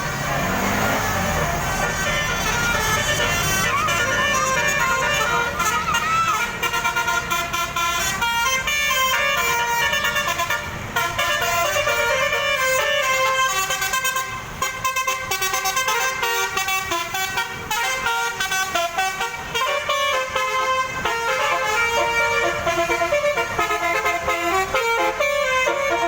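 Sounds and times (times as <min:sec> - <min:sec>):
bus air horns playing tune: 0:00.1 - 0:26.0.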